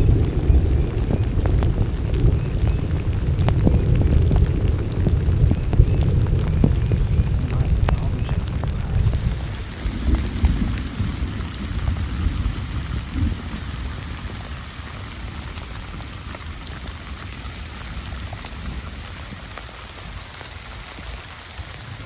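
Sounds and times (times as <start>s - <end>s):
rolling thunder rumble: 0.0s - 22.0s
steady rain falling: 0.0s - 22.0s.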